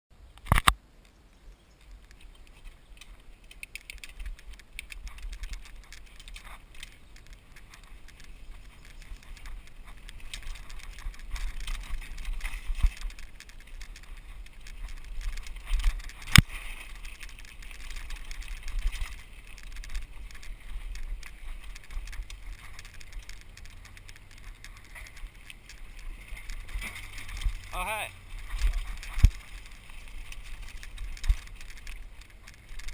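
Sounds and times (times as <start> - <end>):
bike rattling and clicking: 1.7 - 32.9
tyres crunching on gravel: 4.0 - 32.9.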